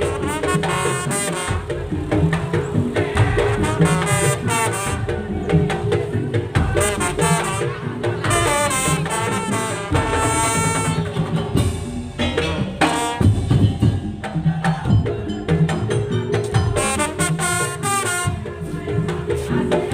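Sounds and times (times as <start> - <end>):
reedy brass-like melody: 0.0 - 11.8, 12.5 - 14.9, 16.7 - 19.9
percussion ensemble playing: 0.0 - 19.9.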